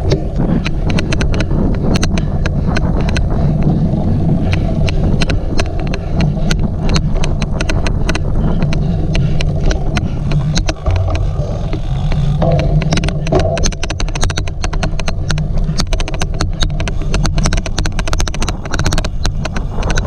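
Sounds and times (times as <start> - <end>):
bike riding rumble: 0.0 - 20.0
sharp irregular clicks: 0.0 - 20.0
wind on microphone: 0.0 - 20.0.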